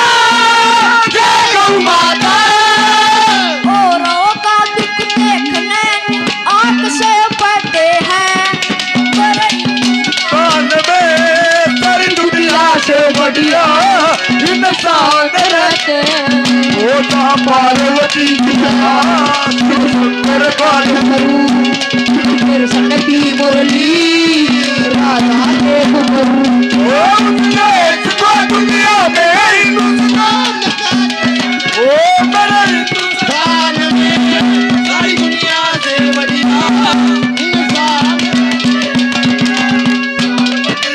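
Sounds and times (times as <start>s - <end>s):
boy singing: 0.0s - 40.9s
hand drum strokes: 0.0s - 40.9s
harmonium drone: 0.0s - 40.9s.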